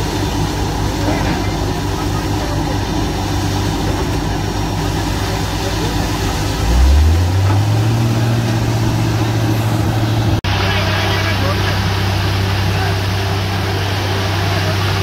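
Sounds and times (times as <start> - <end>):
drilling rig engine running: 0.0 - 15.0.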